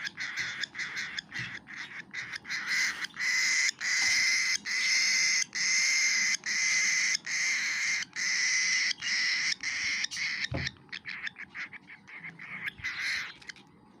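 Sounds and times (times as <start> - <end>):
bird chick begging calls: 0.0 - 13.6.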